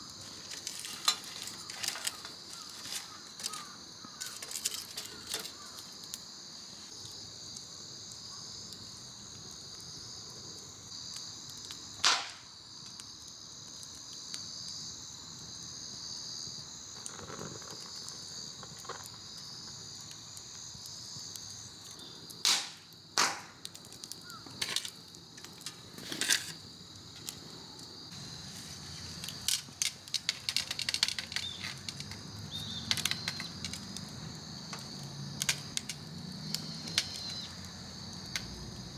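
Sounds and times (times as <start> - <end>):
campfire crackling and popping: 0.0 - 38.9
insects chirring: 0.0 - 38.9.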